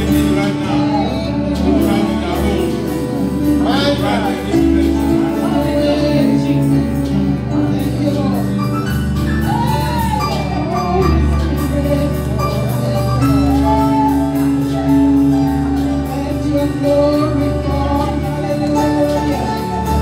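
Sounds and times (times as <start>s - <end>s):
low musical accompaniment: 0.0s - 20.0s
voices singing gospel music: 0.0s - 20.0s.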